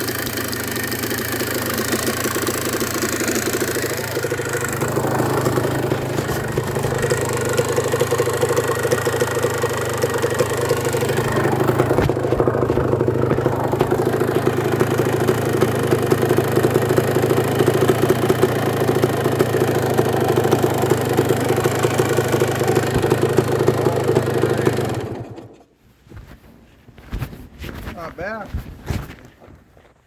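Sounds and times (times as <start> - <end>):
two-stroke engine idling: 0.0 - 25.7.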